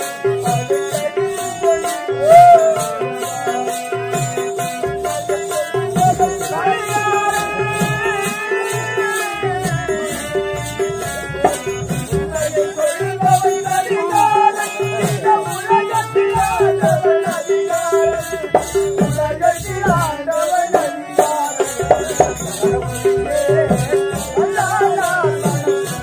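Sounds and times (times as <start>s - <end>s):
fast high rhythm: 0.0s - 26.0s
hand drum strokes: 0.0s - 26.0s
wavering melody line: 0.0s - 26.0s.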